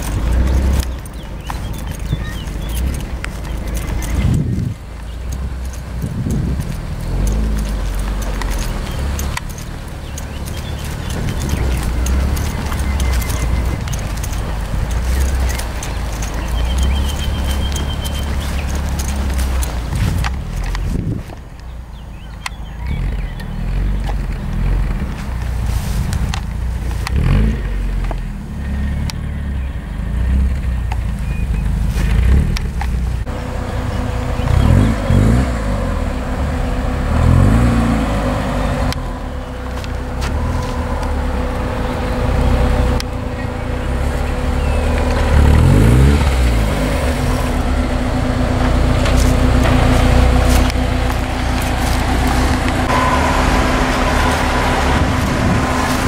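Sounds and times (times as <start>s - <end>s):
car engines driving slowly: 0.0s - 56.0s.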